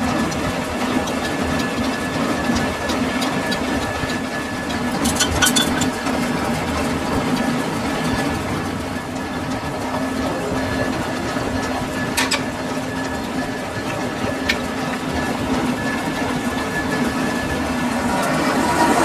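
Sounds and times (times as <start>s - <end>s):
lathe humming: 0.0s - 19.0s.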